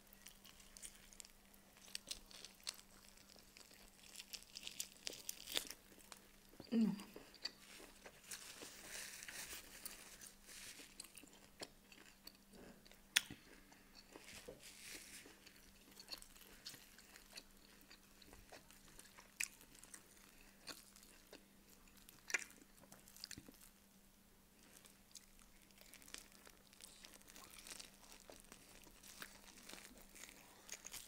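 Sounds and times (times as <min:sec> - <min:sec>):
chewing meat: 0:00.1 - 0:23.8, 0:24.6 - 0:31.0.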